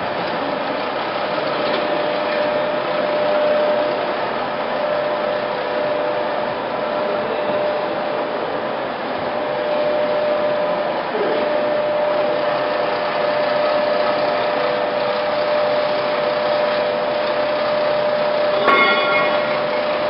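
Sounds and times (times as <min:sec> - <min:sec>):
lathe running: 0:00.1 - 0:20.0.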